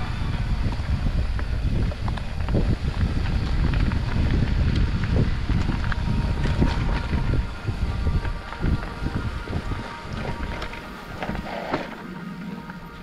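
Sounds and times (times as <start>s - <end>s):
wind buffeting microphone: 0.0s - 13.0s
bike clicks and knocks: 0.2s - 12.0s.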